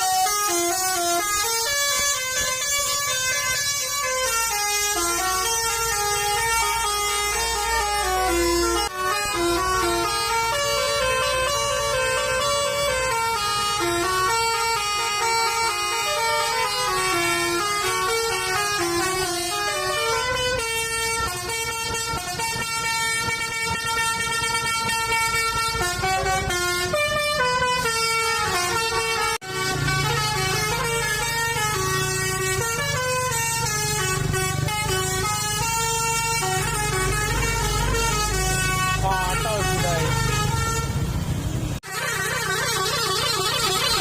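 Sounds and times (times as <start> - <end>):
bus engines rumbling: 0.0 - 44.0
bus melody horns: 0.0 - 44.0.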